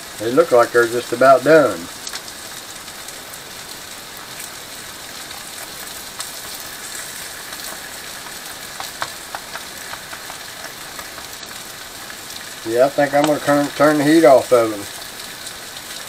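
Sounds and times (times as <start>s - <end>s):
mushrooms sizzling in butter: 0.0s - 16.0s.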